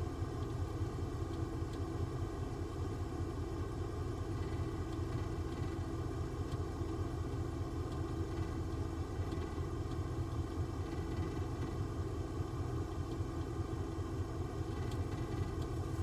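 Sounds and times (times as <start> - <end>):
motor running steadily: 0.0 - 16.0.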